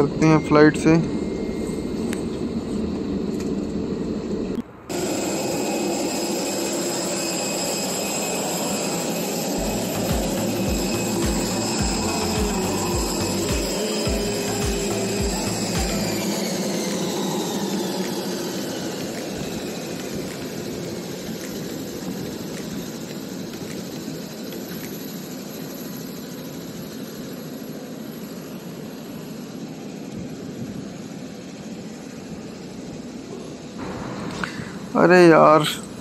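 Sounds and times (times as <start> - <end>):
jet engine roar: 0.0 - 36.0
jet engine whine falling in pitch: 0.0 - 36.0.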